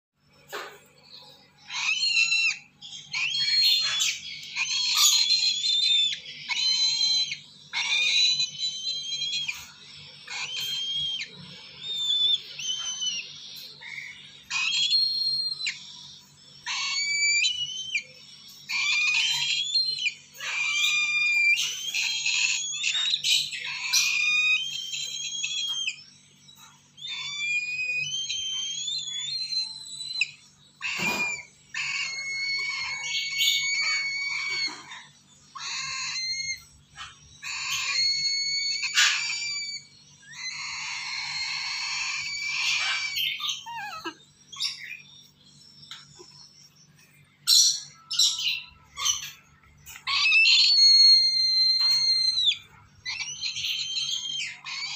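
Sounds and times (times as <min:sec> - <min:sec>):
cockatoo chicks screeching: 0:00.3 - 0:54.9.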